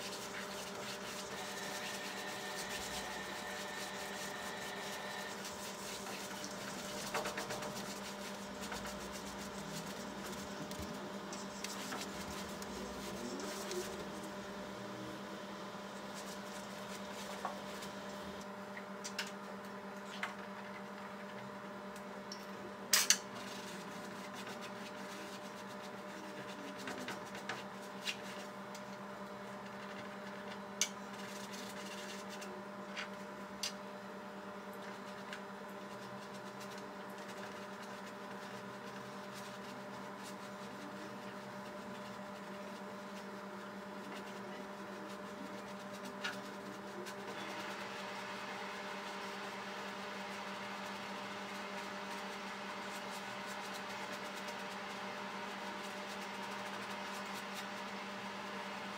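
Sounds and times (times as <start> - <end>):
room tone hum and hiss: 0.0 - 58.9.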